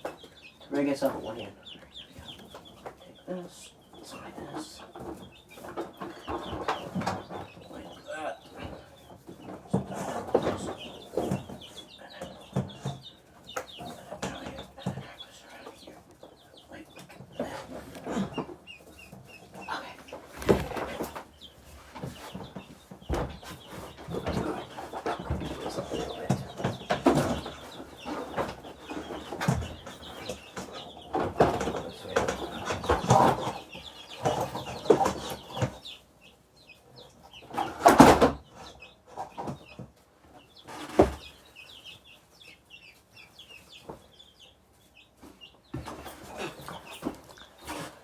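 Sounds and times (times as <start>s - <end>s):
chicks and ducklings peeping: 0.0s - 48.0s
rustling and clattering of handling: 4.2s - 16.4s, 17.0s - 36.0s, 37.1s - 42.4s, 43.0s - 48.0s.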